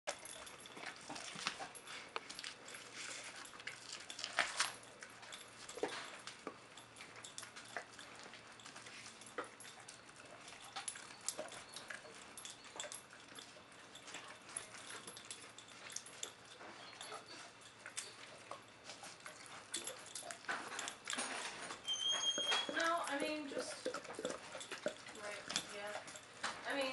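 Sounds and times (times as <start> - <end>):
teeth cracking on bone: 0.1 - 26.6
dog gnawing on bone: 0.1 - 26.9.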